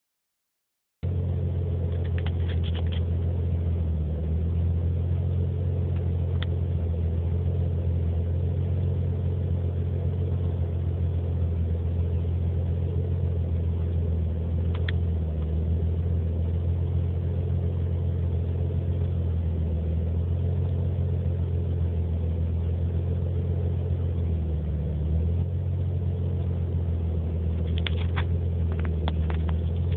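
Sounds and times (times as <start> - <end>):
car engine idling roughly: 1.1 - 24.5, 25.5 - 29.9.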